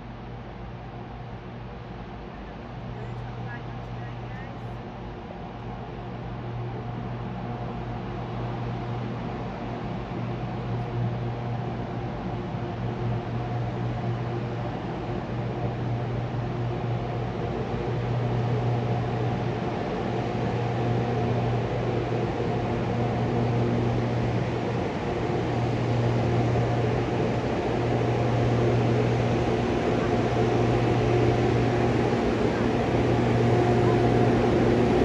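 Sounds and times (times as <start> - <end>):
electric locomotive humming: 0.0 - 35.0.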